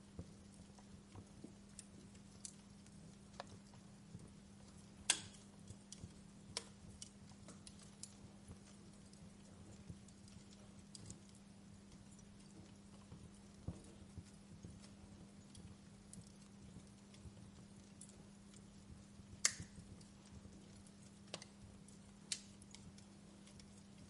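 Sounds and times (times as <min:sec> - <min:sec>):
faint low hum: 0:00.0 - 0:24.0
fire crackling: 0:00.0 - 0:24.0.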